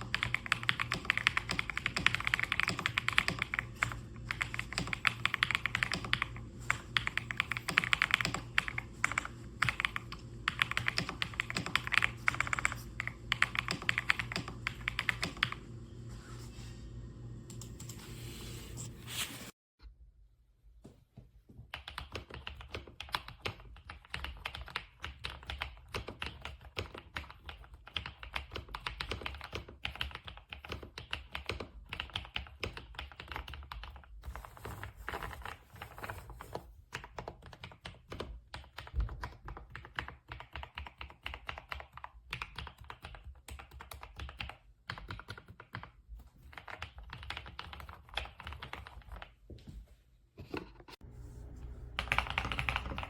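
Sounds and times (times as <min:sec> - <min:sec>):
fast typing on mechanical keyboard: 0:00.0 - 0:15.6, 0:21.7 - 0:36.3, 0:36.9 - 0:49.4, 0:52.0 - 0:53.0.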